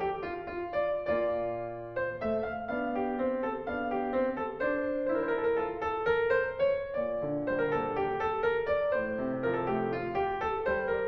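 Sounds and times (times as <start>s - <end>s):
classical piano music: 0.0s - 11.0s.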